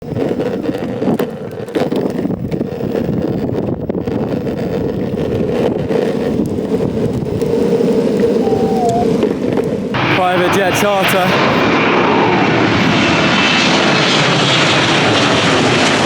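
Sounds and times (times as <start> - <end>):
wind buffeting microphone: 0.0 - 14.7
aircraft engine rumble: 0.0 - 16.0.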